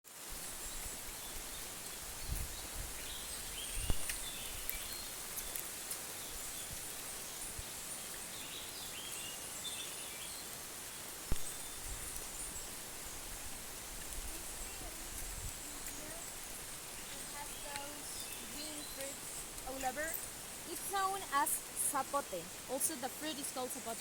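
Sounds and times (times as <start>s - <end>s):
high hum of insects: 0.1s - 24.0s.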